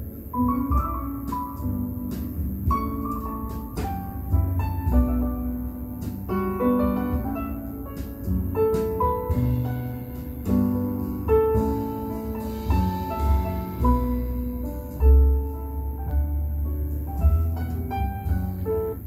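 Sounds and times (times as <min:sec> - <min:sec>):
deep bass: 0:00.0 - 0:19.0
piano instrumental music: 0:00.0 - 0:19.0.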